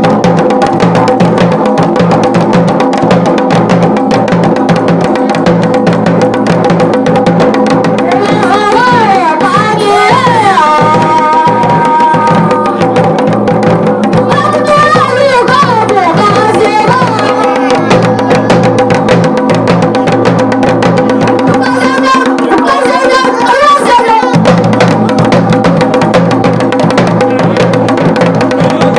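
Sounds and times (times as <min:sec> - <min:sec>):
drum beaten fast: 0:00.0 - 0:28.9.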